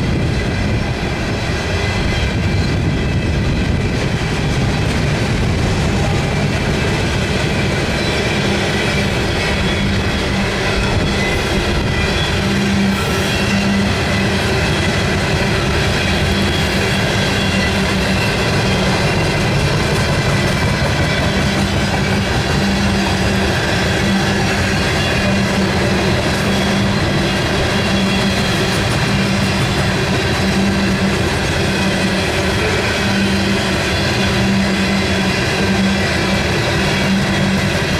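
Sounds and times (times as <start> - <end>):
freight train wheels rumbling: 0.0 - 37.9.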